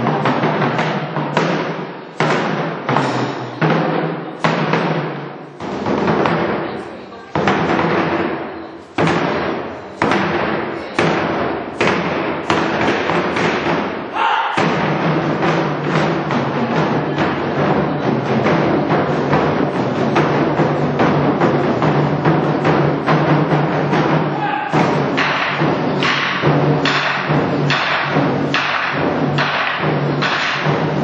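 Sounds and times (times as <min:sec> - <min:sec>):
drumming ensemble: 0:00.0 - 0:31.0.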